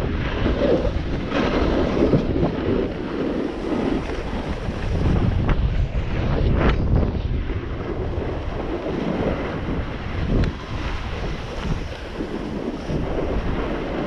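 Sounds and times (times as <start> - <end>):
wind buffeting microphone: 0.0 - 14.0
skis hissing over snow: 0.3 - 5.5, 7.8 - 14.0.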